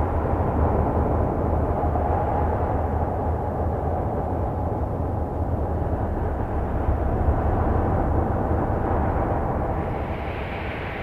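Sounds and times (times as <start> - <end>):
deep rushing rumble: 0.0 - 11.0.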